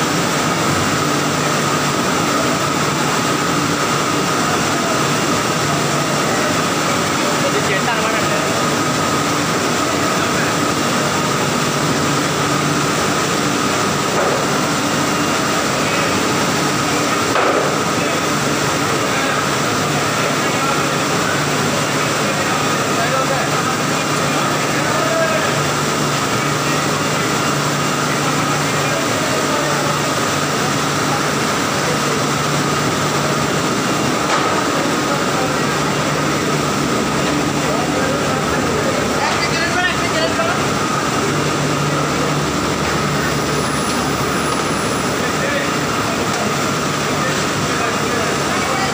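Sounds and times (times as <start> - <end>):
conveyor machinery running: 0.0 - 48.9.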